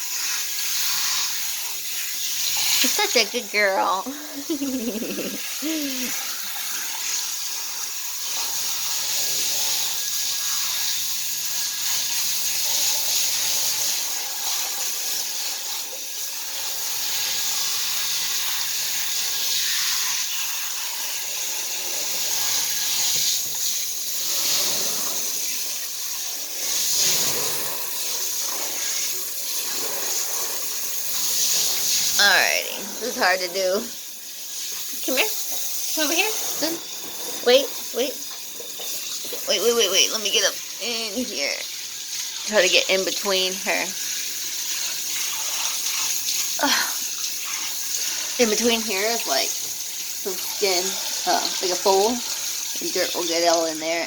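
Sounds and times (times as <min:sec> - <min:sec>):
water spraying on dog's coat: 0:00.0 - 0:54.0.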